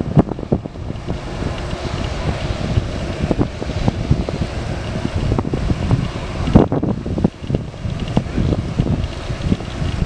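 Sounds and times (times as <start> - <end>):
jet engines rushing hum: 0.0 - 10.0
wind buffeting microphone: 0.0 - 10.0.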